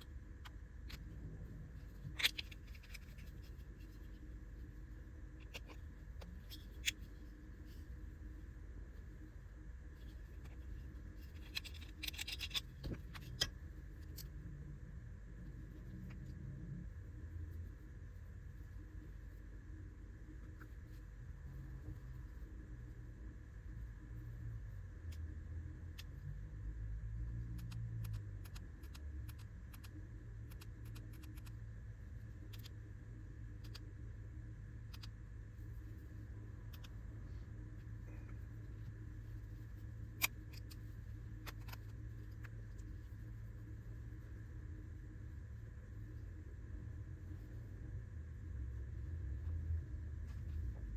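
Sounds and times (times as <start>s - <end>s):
low room noise: 0.0s - 50.9s
low steady hum: 0.0s - 50.9s.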